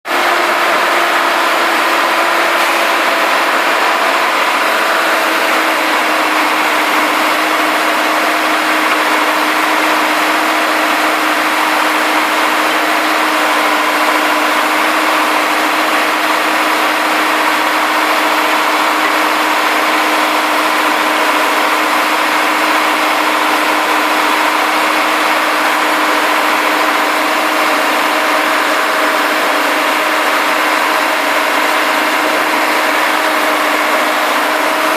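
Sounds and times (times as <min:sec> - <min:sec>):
drill rig engine droning: 0:00.0 - 0:34.9.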